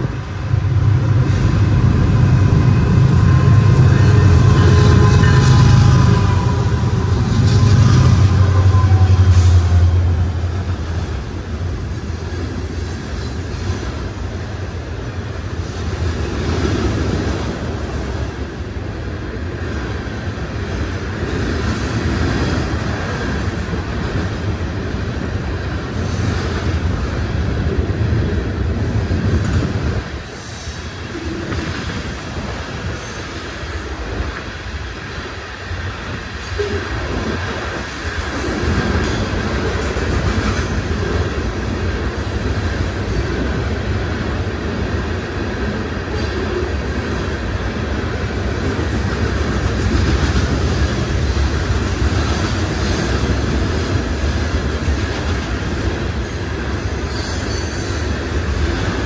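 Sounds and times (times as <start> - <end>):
diesel locomotive engine droning: 0.0 - 59.0
train wheels rumbling and rail clatter: 0.0 - 59.0.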